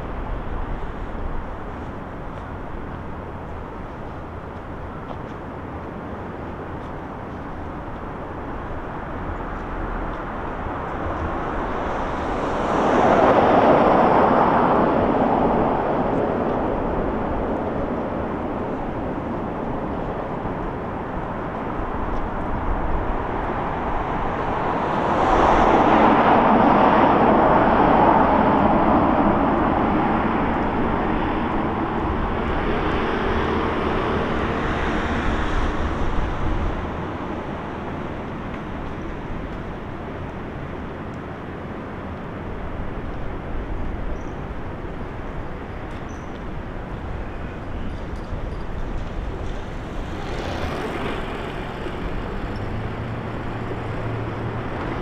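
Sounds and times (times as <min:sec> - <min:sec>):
street hum: 0:00.0 - 0:55.0
vehicles passing: 0:00.0 - 0:55.0.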